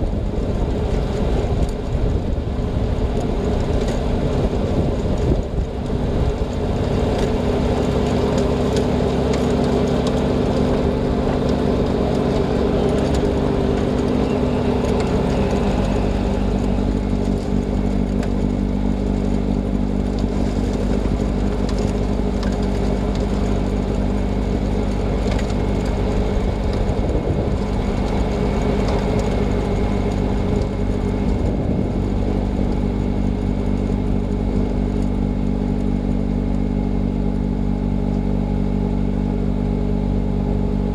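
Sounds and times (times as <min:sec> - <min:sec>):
tractor engine under load: 0:00.0 - 0:40.9.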